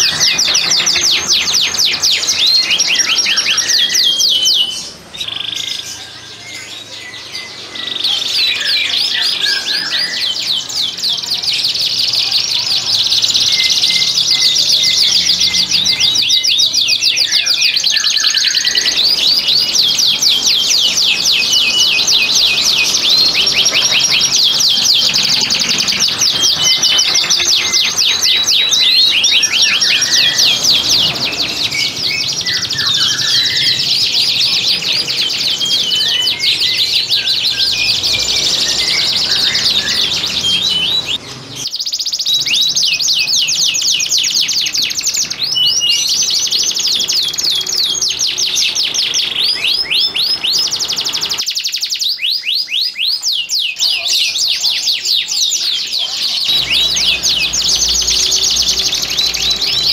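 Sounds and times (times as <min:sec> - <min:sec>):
canaries trilling: 0:00.0 - 0:59.9.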